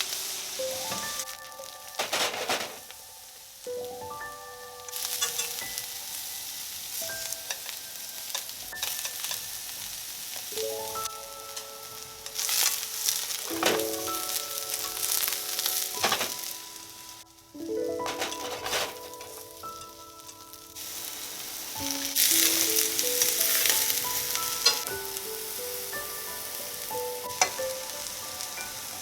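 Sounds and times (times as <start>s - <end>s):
eggplant sizzling in oil: 0.0s - 29.0s
soft background music: 0.0s - 29.0s.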